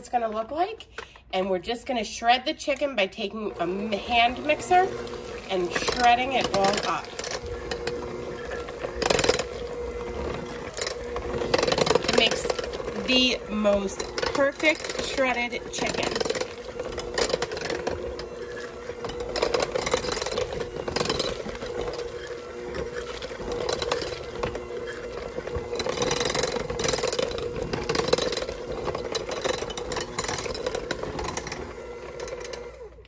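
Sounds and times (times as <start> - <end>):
electric hand mixer running: 3.1 - 33.0
beaters clattering and knocking: 3.6 - 32.8.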